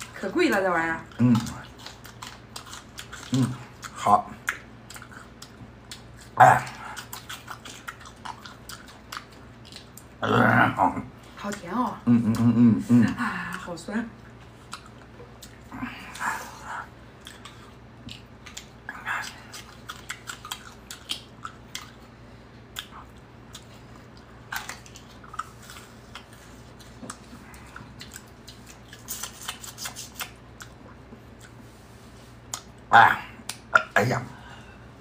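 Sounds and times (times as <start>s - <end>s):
crunchy chewing: 1.0s - 11.6s, 12.2s - 33.8s.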